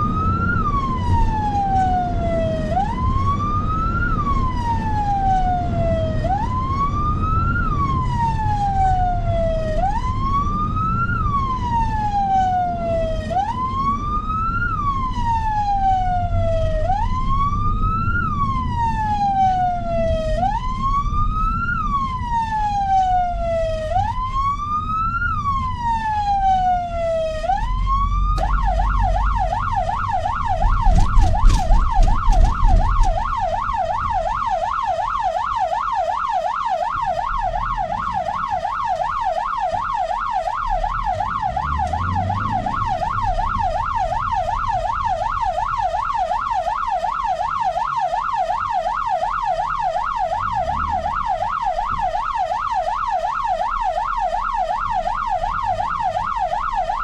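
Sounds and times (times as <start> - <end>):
low road vehicle rumble: 0.0 - 57.0
siren wailing and yelping: 0.0 - 57.0.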